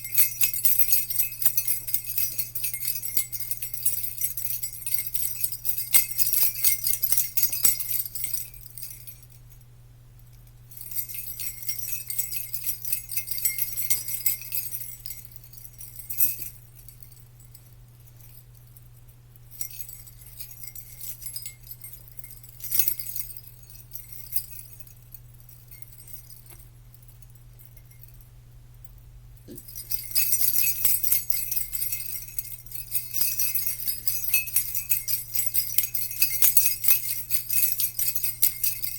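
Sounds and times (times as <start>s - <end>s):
jingle bells shaken: 0.0s - 9.6s, 10.7s - 18.8s, 19.5s - 28.2s, 29.4s - 38.9s
faint low hum: 0.0s - 38.9s.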